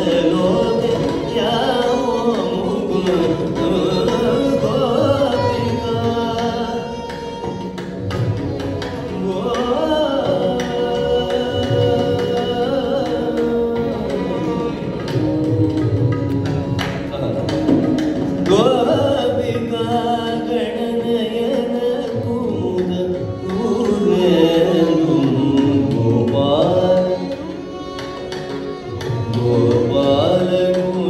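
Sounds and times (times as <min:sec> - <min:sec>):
man singing: 0:00.0 - 0:07.4, 0:09.1 - 0:16.3, 0:18.4 - 0:27.6, 0:29.2 - 0:31.0
violin melody: 0:00.0 - 0:31.0.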